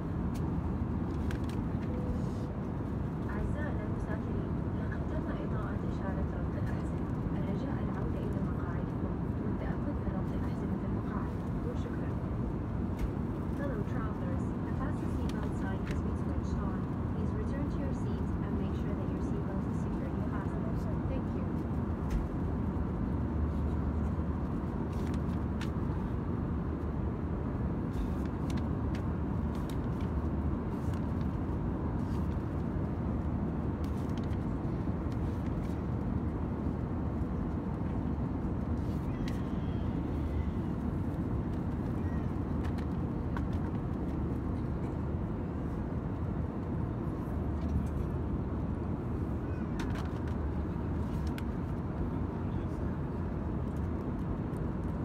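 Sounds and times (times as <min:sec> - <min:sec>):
aircraft cabin airflow rush: 0:00.0 - 0:55.0
faint steady hum: 0:00.0 - 0:55.0.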